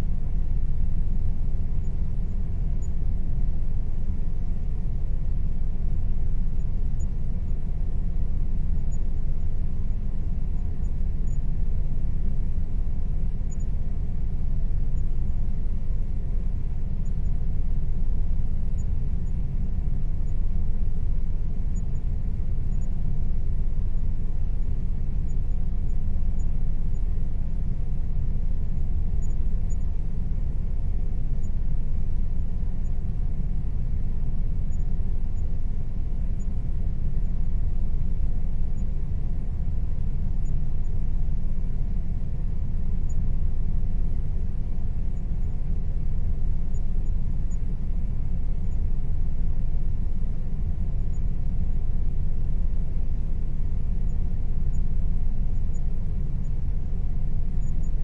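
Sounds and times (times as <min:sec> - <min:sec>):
air conditioner running: 0:00.0 - 0:58.0.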